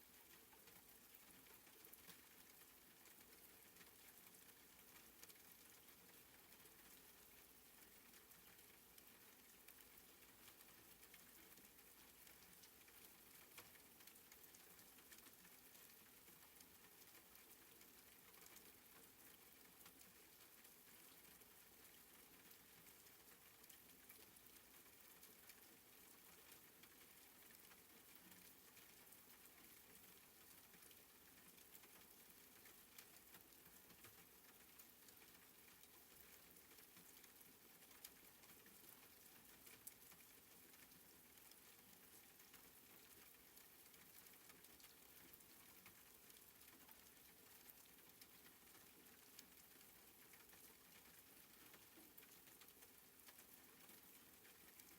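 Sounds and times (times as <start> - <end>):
light rain patter: 0.0 - 54.9.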